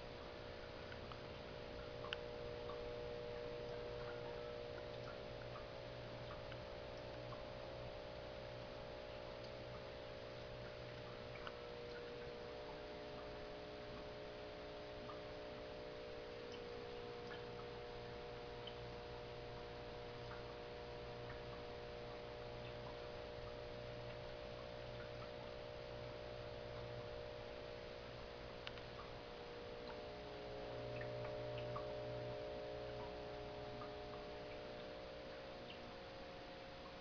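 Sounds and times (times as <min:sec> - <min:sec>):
aquarium pump humming: 0:00.0 - 0:37.0
faint ticks: 0:00.0 - 0:37.0.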